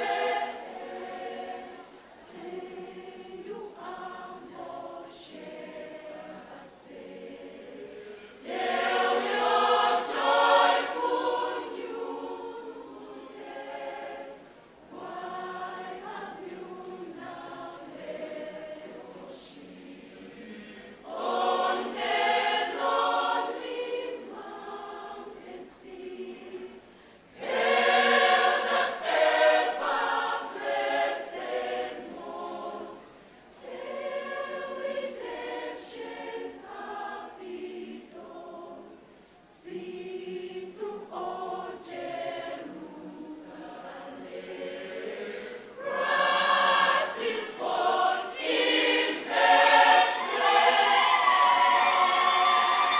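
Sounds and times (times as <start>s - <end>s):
choir singing a carol: 0.0s - 52.9s.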